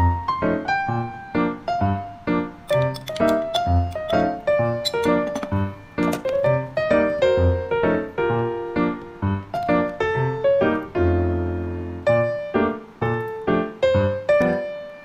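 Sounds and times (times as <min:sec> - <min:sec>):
piano playing: 0:00.0 - 0:15.0.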